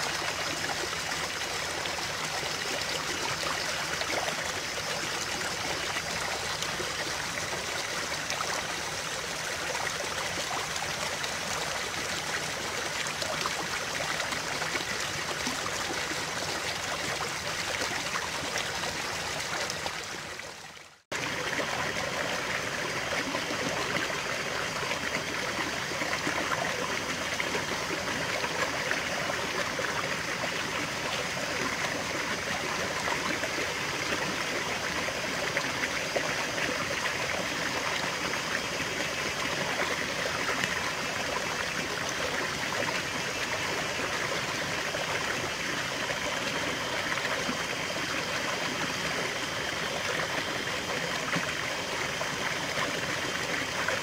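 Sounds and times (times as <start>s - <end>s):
stream splashing over rocks: 0.0s - 54.0s.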